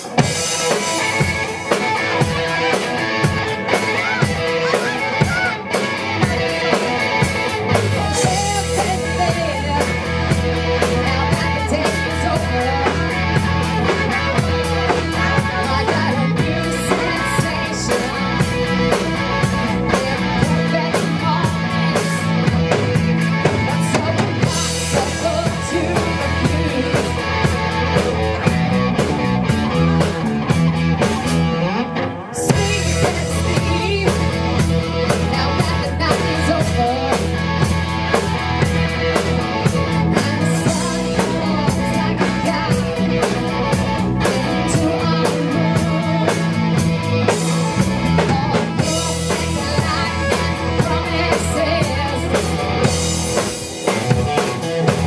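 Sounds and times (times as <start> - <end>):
rock band playing: 0.0 - 55.0
heavy low bass line: 6.0 - 55.0.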